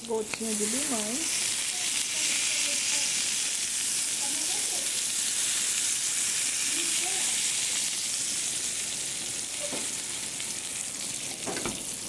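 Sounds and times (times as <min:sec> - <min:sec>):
pork sizzling in frying pan: 0:00.0 - 0:12.0.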